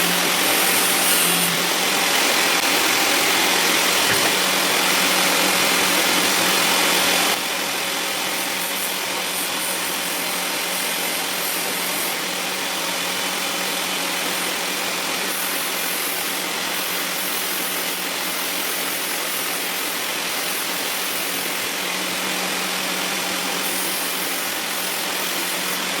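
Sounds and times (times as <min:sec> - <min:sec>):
angle grinder running: 0:00.0 - 0:26.0.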